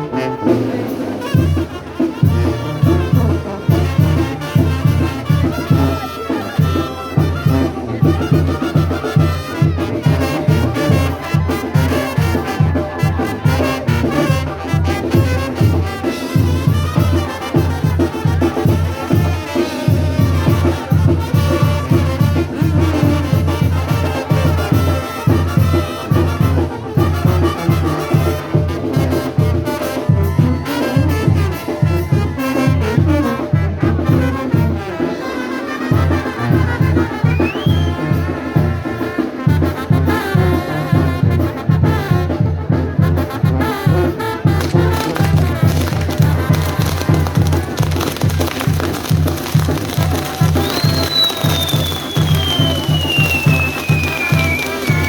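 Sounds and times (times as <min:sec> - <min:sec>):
brass band music: 0:00.0 - 0:55.0.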